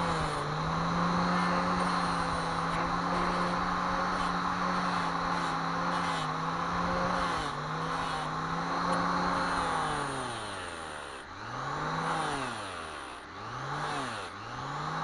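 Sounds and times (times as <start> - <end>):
small electric motor whirring: 0.0 - 15.0.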